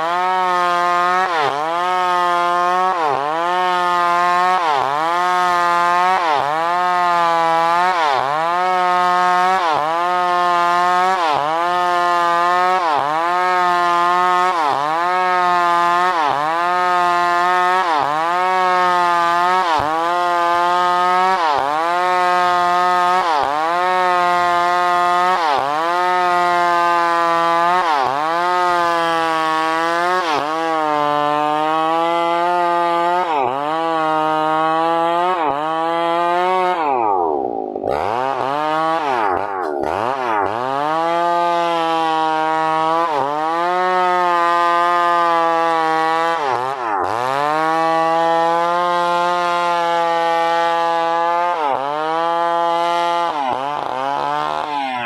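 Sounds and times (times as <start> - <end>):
chainsaw cutting at high revs: 0.0 - 55.0.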